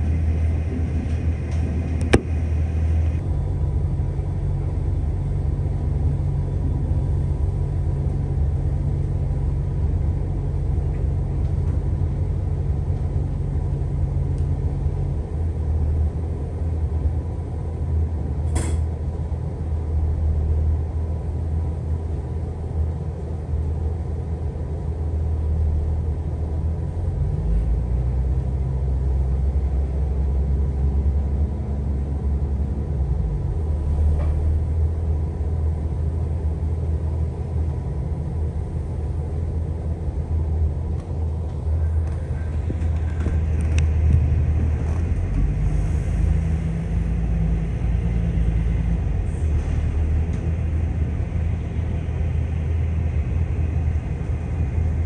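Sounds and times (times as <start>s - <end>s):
train diesel engine drone: 0.0s - 55.0s.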